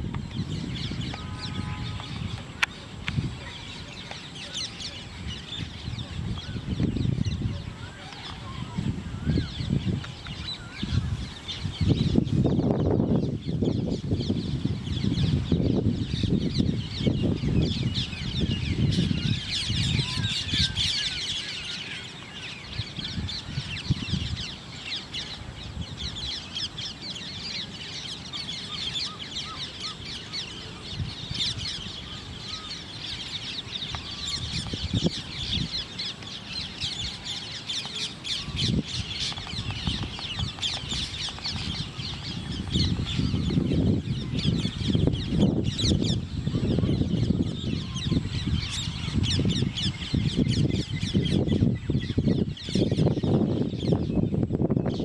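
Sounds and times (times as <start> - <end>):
birds chirping in chorus: 0.0 - 55.0.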